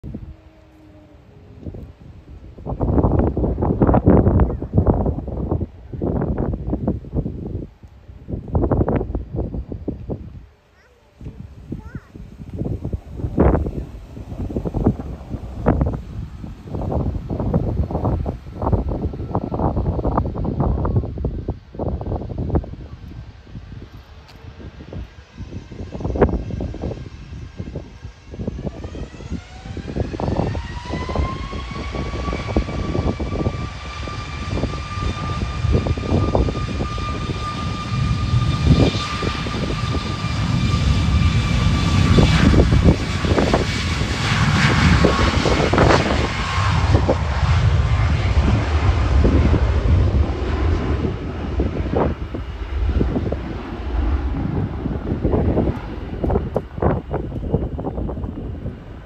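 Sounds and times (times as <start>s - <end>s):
deep jet rumble: 0.0s - 59.0s
jet engine whine: 0.0s - 59.0s.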